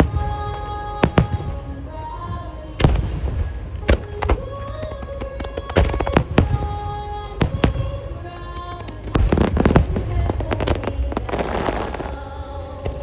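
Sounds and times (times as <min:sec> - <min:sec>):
firework shells bursting: 0:00.0 - 0:13.0
music over loudspeakers: 0:00.0 - 0:13.0.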